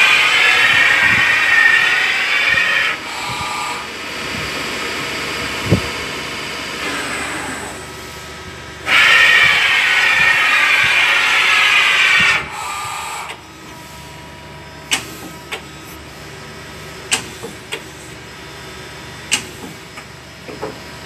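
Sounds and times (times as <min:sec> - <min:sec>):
lathe hissing whine: 0:00.0 - 0:21.0.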